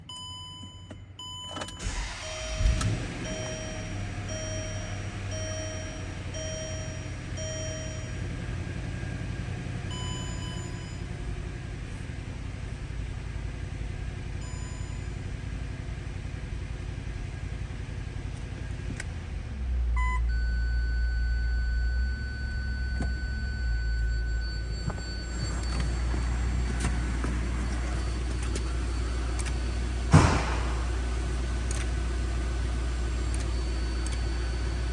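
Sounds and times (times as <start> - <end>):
car engine starting and idling: 0.0 - 34.9.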